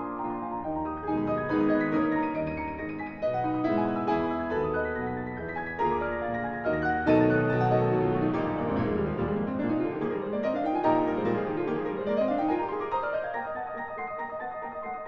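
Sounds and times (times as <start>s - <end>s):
piano playing scale runs: 0.0s - 15.0s.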